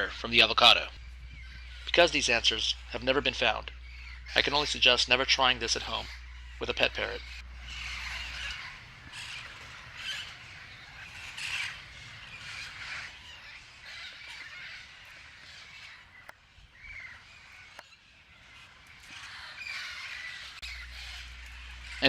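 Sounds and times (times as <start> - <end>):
parrots calling: 0.3 - 22.0.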